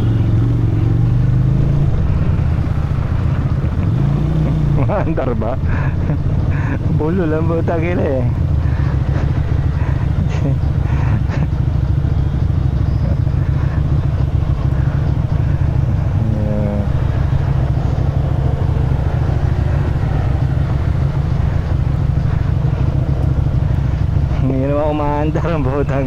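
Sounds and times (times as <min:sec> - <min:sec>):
motorcycle engine droning: 0:00.0 - 0:26.0.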